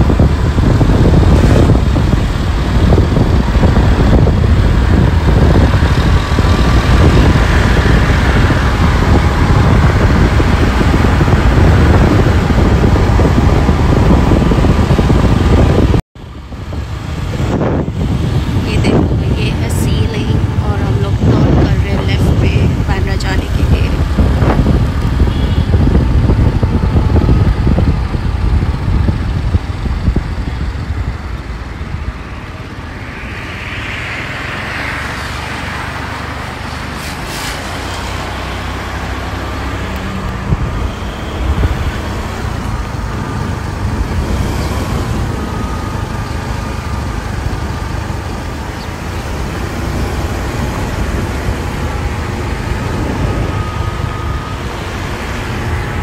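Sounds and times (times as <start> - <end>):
rush of moving traffic: 0.0 - 56.0
wind rumble on microphone: 0.0 - 56.0.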